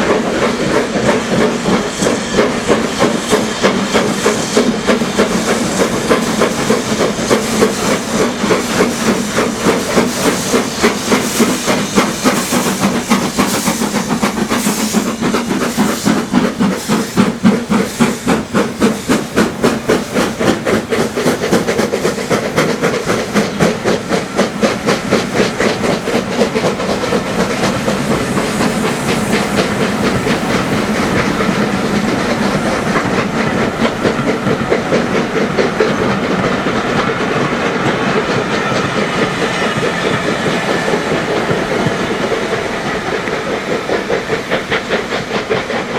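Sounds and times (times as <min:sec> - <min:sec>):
steam hissing: 0:00.0 - 0:45.9
steam locomotive exhaust beats: 0:00.0 - 0:45.9.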